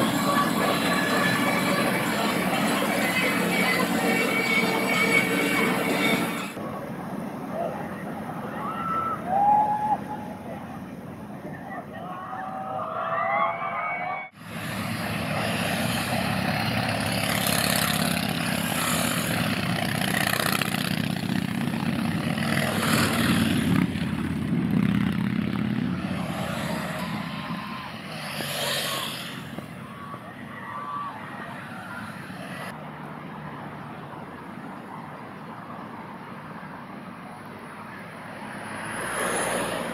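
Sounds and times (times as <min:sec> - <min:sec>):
roller coaster train rumbling: 0:00.0 - 0:32.7.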